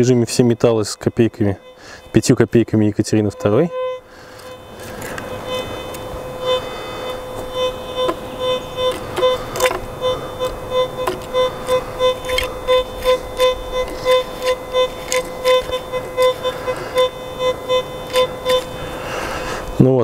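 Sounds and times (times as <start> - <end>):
metal detector electronic tone: 0.0 - 20.0.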